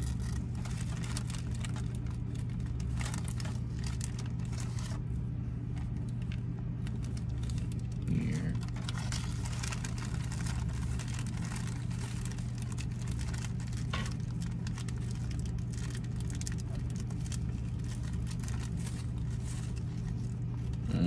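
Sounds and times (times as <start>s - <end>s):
plastic bag crinkling: 0.0s - 21.0s
steady low hum: 0.0s - 21.0s.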